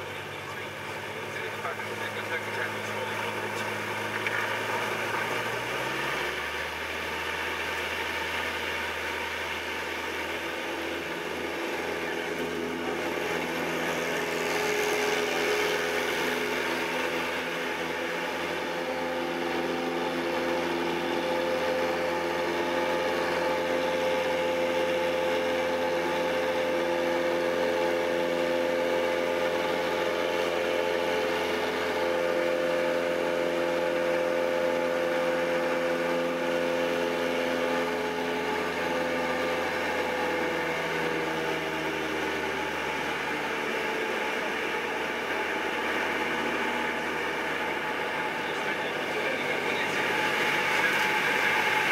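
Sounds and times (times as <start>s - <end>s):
light aircraft engine droning: 0.0s - 51.9s.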